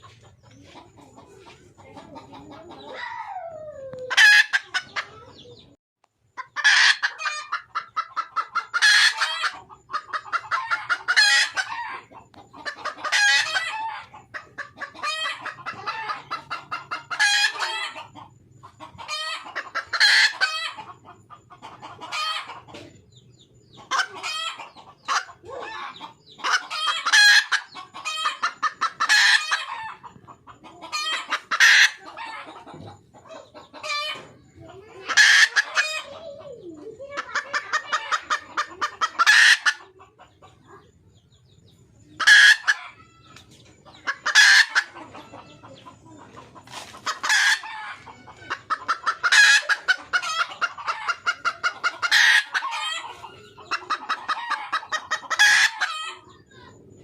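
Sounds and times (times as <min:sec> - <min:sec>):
junglefowl hen cackling: 0:00.0 - 0:05.8, 0:06.4 - 0:57.0.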